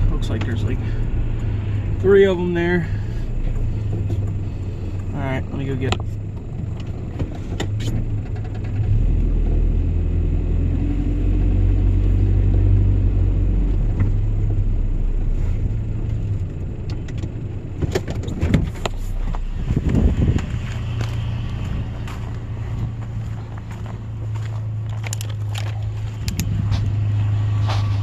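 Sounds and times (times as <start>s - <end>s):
traffic engine and road rumble: 0.0s - 28.0s.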